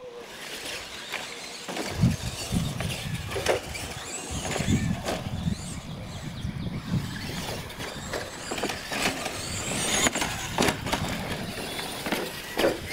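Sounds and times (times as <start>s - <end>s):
rc trucks rumbling on dirt: 0.0s - 12.9s.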